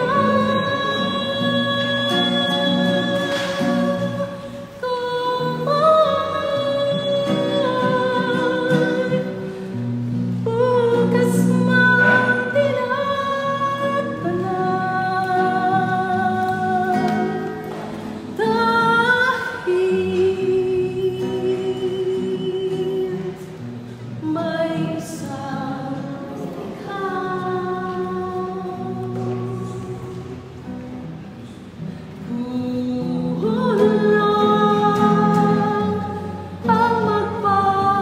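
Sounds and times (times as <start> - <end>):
person singing long notes: 0.0 - 9.8, 10.4 - 31.0, 32.2 - 38.0.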